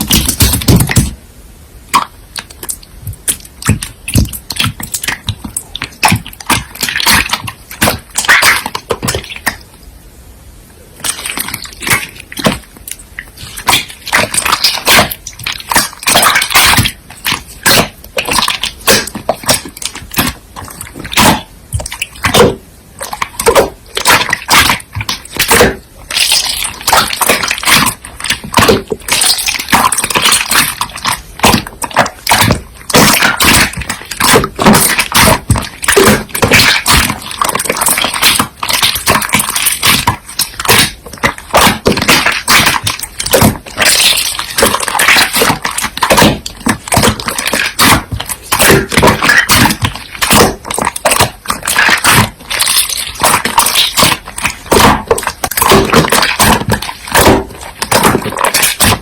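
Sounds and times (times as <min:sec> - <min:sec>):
slime squishing and popping: 0:00.0 - 0:01.2, 0:01.8 - 0:09.9, 0:10.9 - 0:59.0.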